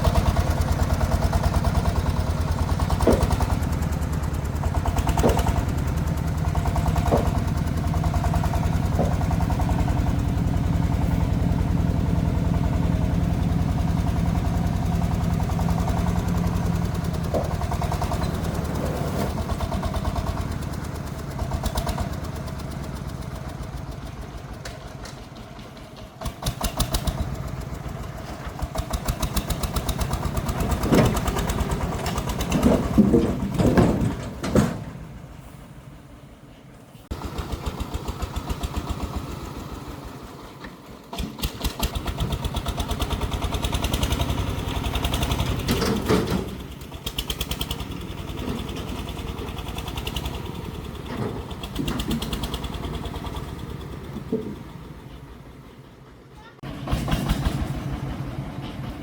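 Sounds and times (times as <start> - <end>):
diesel engine thumping: 0.0 - 59.0.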